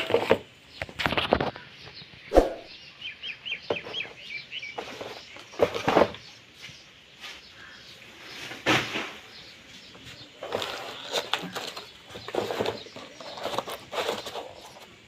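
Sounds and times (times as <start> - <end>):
small bird chirping: 0.6 - 8.6, 9.3 - 15.0.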